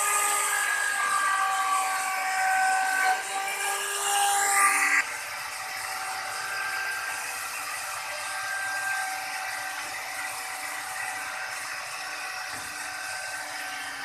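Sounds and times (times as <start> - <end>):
electric router cutting wood: 0.0 - 14.0.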